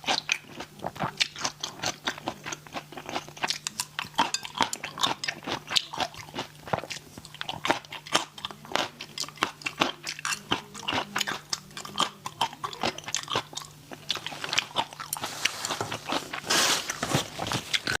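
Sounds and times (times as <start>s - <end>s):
person chewing crunchy shrimp: 0.0s - 18.0s.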